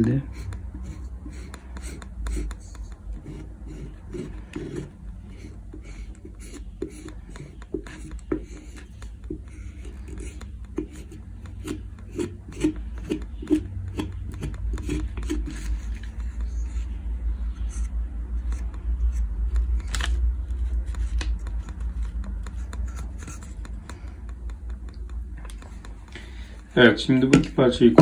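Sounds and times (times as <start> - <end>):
fingers rubbing on wood: 0.0 - 28.0.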